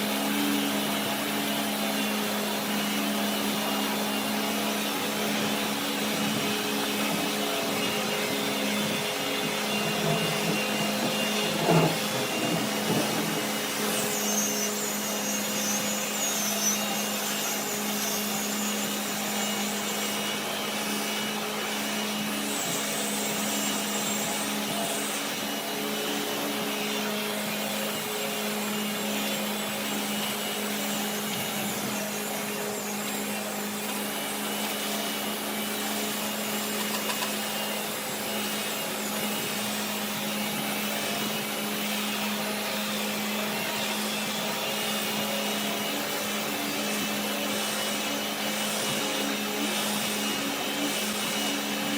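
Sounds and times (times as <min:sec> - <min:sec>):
woodworking machine humming: 0:00.0 - 0:51.9.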